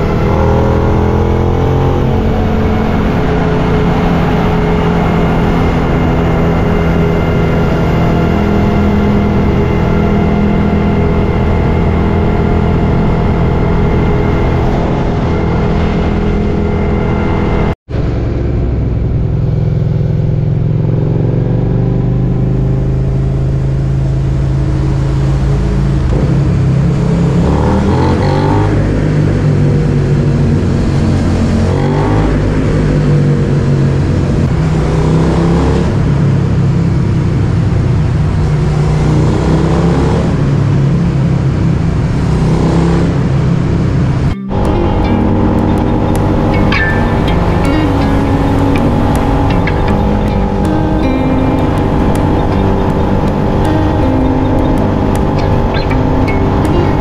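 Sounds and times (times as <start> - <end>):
wind rumble: 0.0 - 28.0, 28.6 - 57.0
motorcycle engine revving: 0.0 - 57.0.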